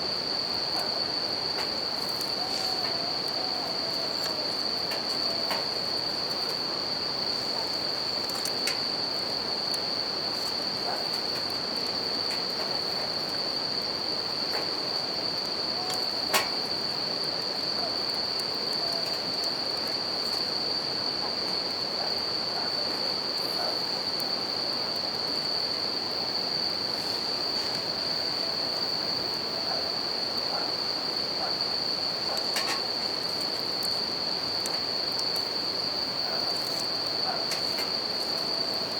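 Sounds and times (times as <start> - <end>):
bell crickets chirping: 0.0 - 38.9.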